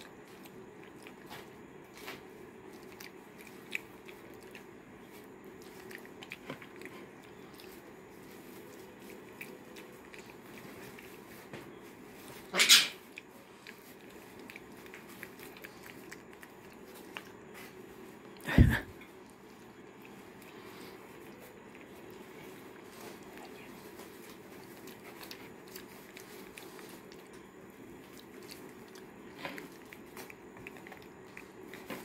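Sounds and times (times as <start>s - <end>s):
monkey chewing wetly: 0.0s - 12.3s, 13.0s - 32.0s.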